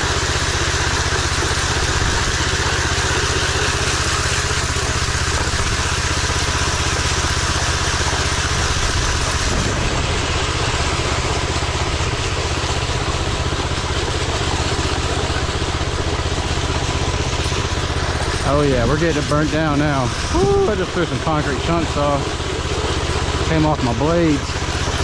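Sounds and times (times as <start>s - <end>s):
power trowel engine running: 0.0s - 25.0s.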